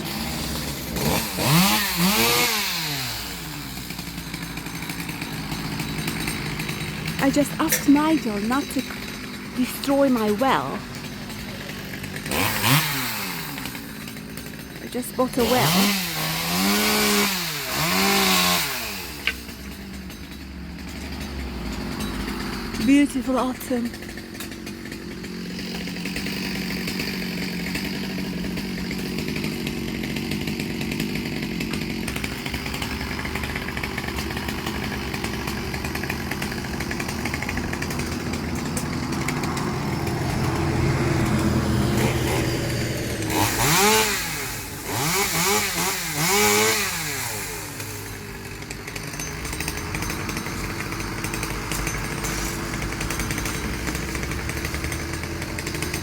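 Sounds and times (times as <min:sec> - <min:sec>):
hedge trimmer engine revving: 0:00.0 - 0:56.0.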